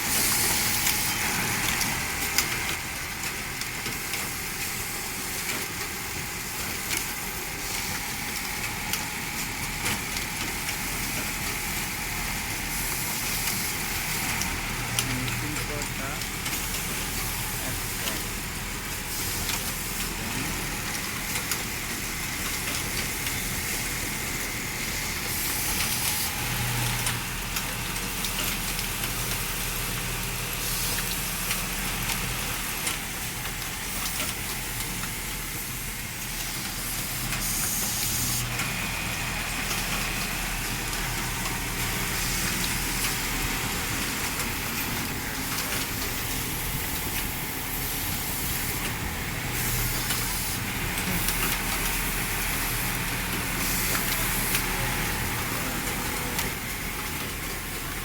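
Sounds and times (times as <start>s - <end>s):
belt-driven machine droning: 0.0s - 58.0s.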